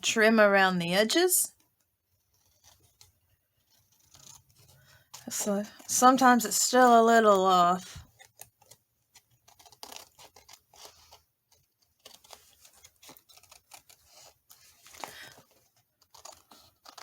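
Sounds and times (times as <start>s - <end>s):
paper rustling: 1.6s - 17.0s
scissors snipping paper: 1.6s - 17.0s.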